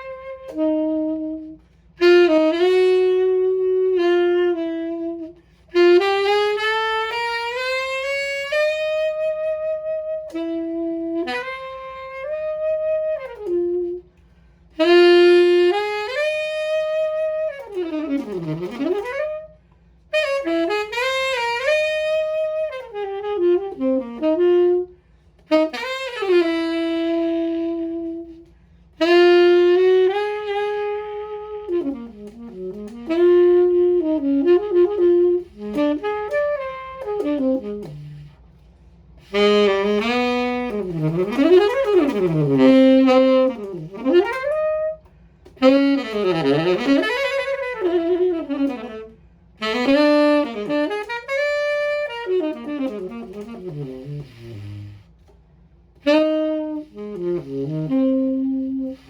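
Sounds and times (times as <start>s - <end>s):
saxophone jazz melody: 0.0s - 59.0s.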